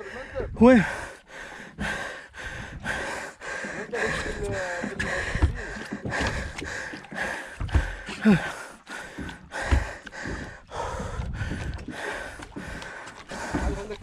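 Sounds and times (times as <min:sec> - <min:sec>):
heavy gasping breaths: 0:00.0 - 0:14.0.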